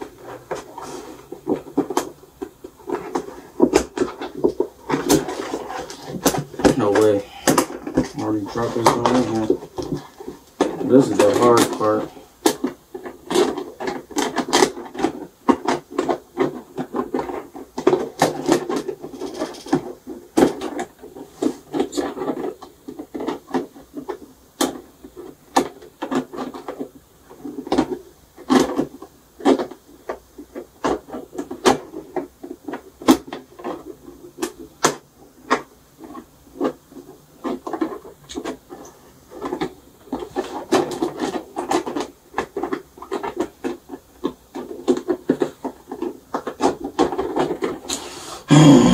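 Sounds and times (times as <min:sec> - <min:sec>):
cardboard pieces clicking and knocking: 0:00.0 - 0:48.9.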